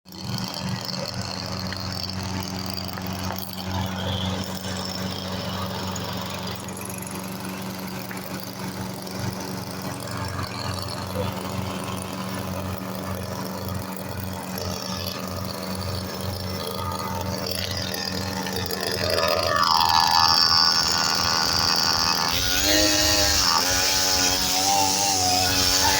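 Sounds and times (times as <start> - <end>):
lawn mower engine idling: 0.1 - 25.9.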